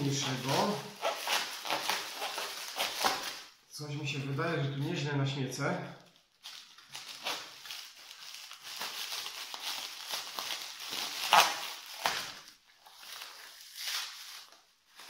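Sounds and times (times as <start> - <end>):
paper and plastic crinkling: 0.0 - 3.6, 6.0 - 15.0.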